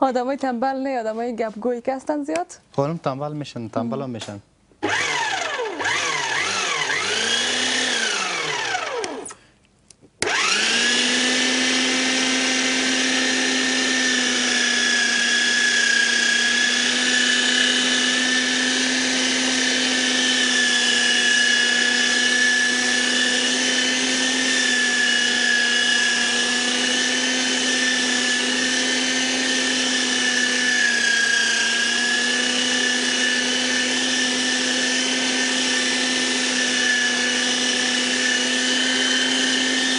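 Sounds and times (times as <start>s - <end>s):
meat grinder motor whine: 4.8s - 9.4s, 10.2s - 39.9s.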